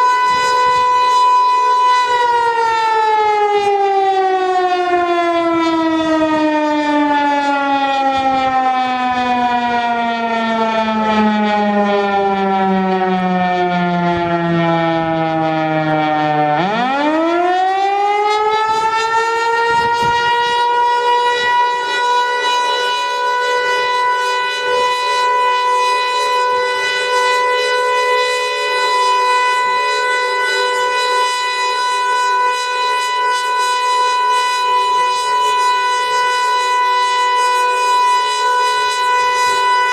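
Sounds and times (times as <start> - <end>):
outdoor warning siren wailing: 0.0 - 39.9.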